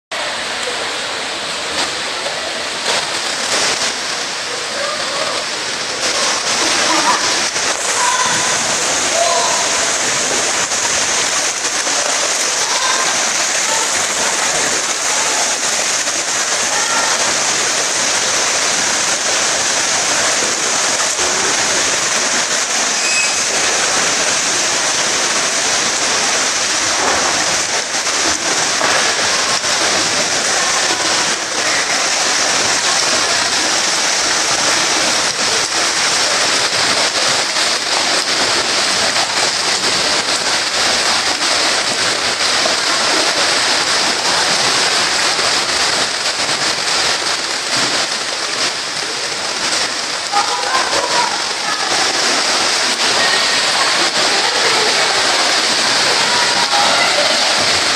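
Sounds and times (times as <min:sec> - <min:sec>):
water splashing and rushing: 0:00.1 - 0:57.9.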